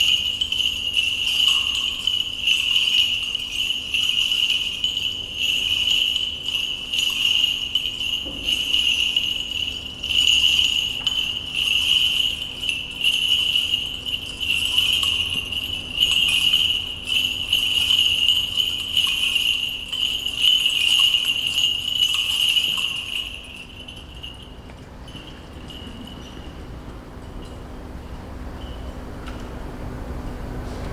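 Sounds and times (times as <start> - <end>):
censer bells jingling: 0.0 - 29.4.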